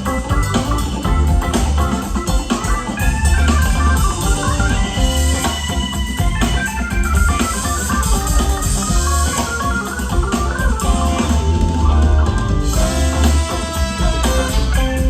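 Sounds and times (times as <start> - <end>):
drum kit: 0.0 - 15.0
heavy bass line: 0.0 - 15.0
organ chords: 0.0 - 15.0.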